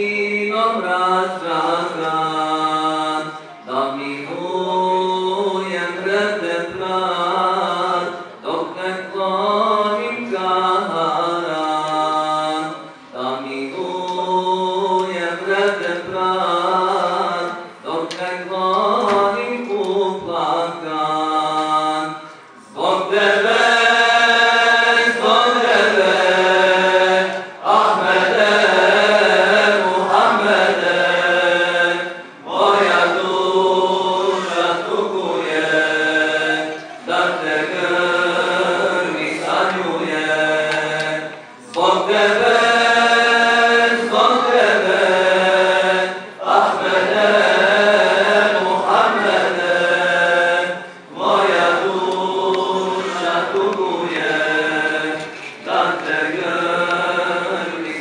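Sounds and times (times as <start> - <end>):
person chanting: 0.0 - 58.0.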